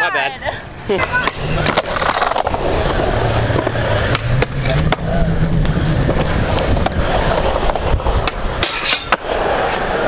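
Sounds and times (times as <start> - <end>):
skateboard wheels rolling on concrete: 0.0 - 10.0
skateboard clacks: 0.9 - 10.0.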